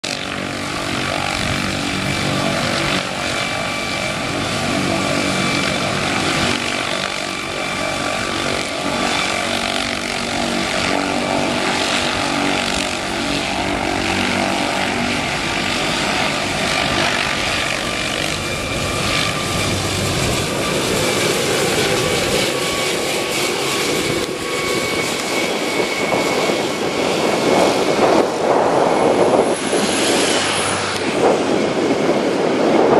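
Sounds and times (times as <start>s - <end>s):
helicopter rotor: 0.0s - 32.9s
helicopter turbine whine: 0.0s - 32.9s.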